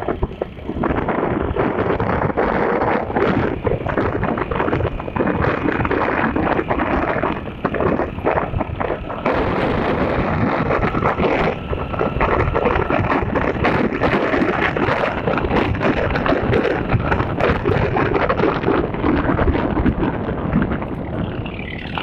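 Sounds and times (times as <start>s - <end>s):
rumbling microphone noise: 0.0s - 22.0s.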